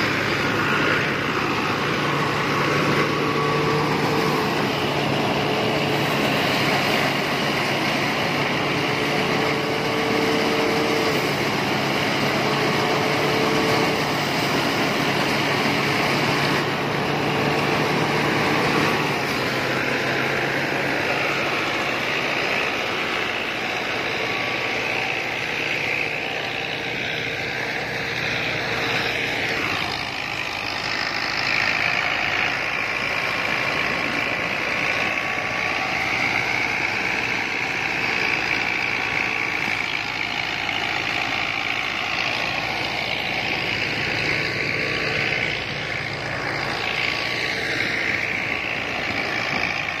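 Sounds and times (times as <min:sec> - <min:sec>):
thresher running: 0:00.0 - 0:50.0
tractor diesel engine running: 0:00.0 - 0:50.0.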